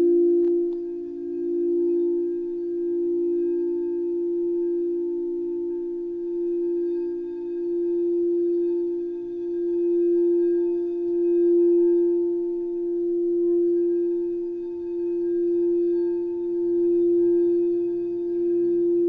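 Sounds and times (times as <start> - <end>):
singing bowl tone: 0.0 - 19.0.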